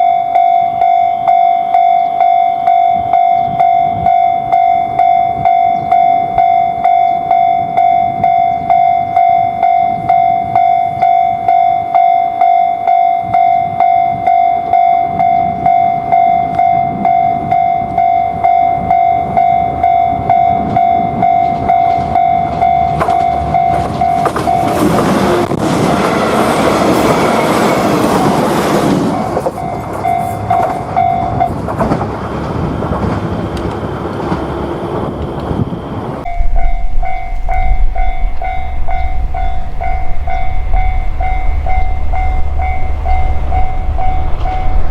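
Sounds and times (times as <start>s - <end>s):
level-crossing warning bell: 0.0s - 31.6s, 36.2s - 44.9s
train passing over crossing: 0.0s - 44.9s.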